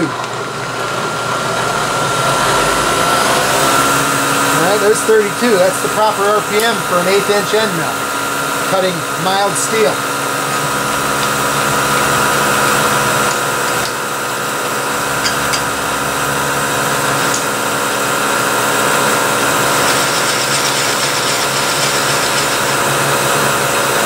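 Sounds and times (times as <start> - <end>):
milling machine humming with whine: 0.0 - 24.0.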